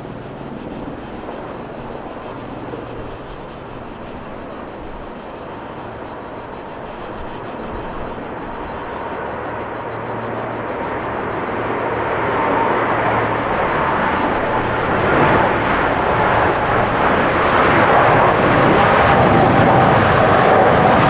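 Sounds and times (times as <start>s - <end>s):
insects chirping: 0.0s - 21.0s
jet airliner engines: 0.0s - 21.0s.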